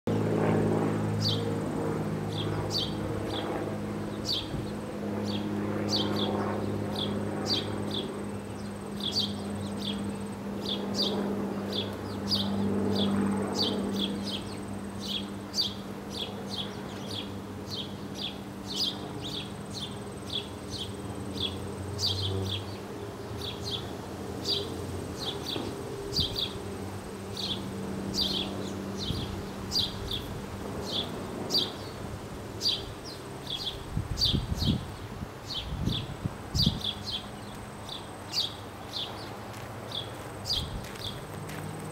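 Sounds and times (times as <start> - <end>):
steady low hum: 0.1 - 41.9.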